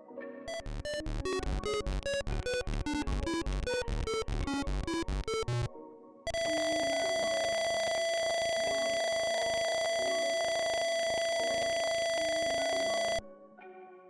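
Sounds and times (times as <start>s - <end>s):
steady high electronic tone: 0.5s - 5.7s, 6.3s - 13.2s
buzzer square-wave melody: 0.5s - 13.2s.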